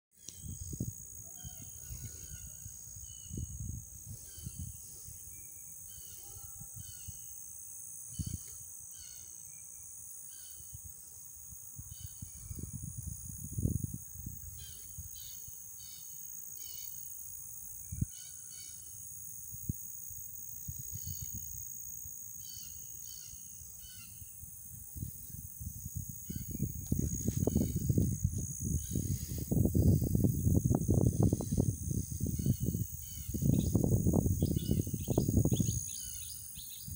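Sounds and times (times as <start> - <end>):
chorus of insects: 0.2 - 36.9
short insect chirps: 0.2 - 36.9.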